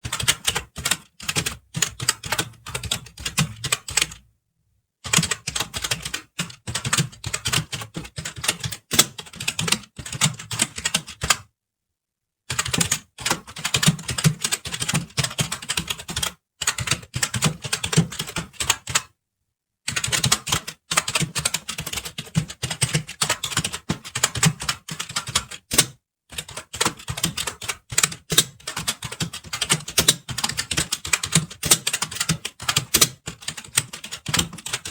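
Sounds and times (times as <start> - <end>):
fast typing on keyboard: 0.0 - 4.2, 5.1 - 11.4, 12.5 - 19.1, 19.9 - 34.9.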